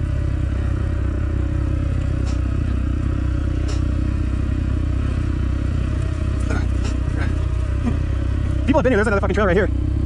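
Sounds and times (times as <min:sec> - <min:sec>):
dirt bike engine rumbling: 0:00.0 - 0:10.0.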